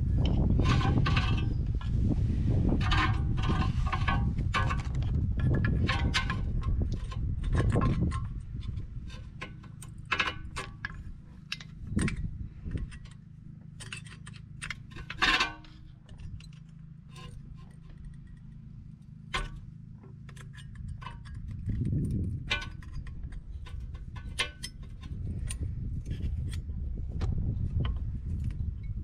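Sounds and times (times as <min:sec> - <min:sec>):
low rumble: 0:00.0 - 0:09.8, 0:10.5 - 0:13.9, 0:14.7 - 0:29.0
metallic clicks and scrapes: 0:00.1 - 0:29.0.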